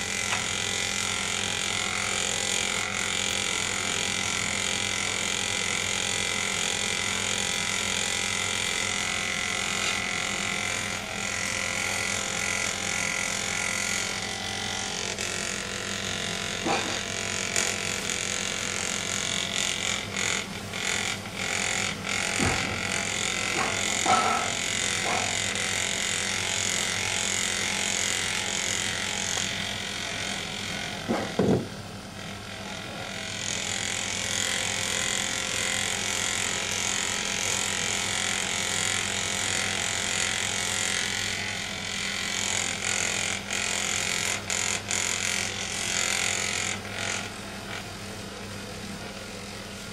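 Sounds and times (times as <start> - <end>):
small electric motor humming: 0.0 - 49.9.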